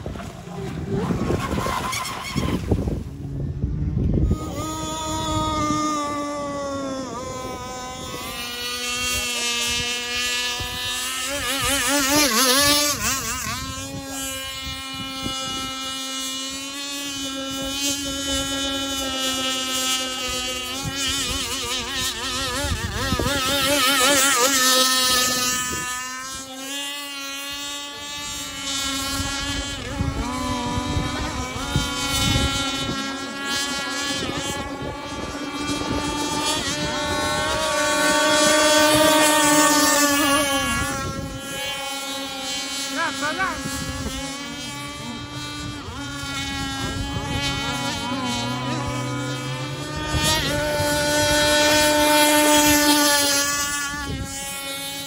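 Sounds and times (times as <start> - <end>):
rc speedboat motors whining: 0.0 - 55.0.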